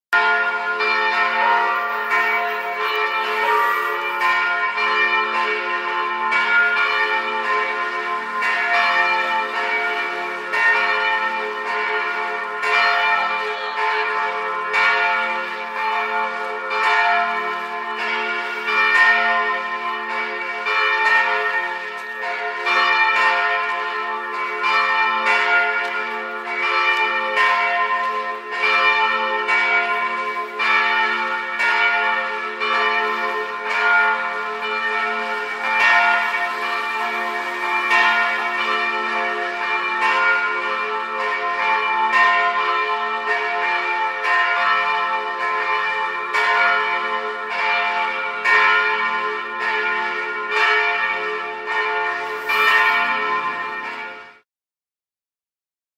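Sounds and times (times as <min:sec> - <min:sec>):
church bells pealing: 0:00.2 - 0:54.4.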